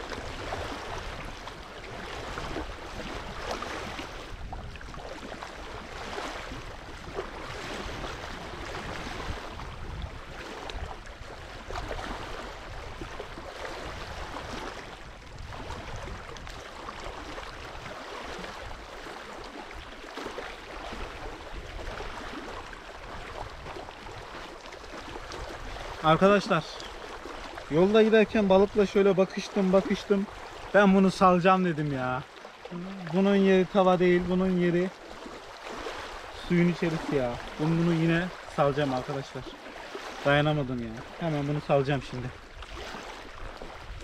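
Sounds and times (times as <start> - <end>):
small waves lapping at shore: 0.0 - 44.0.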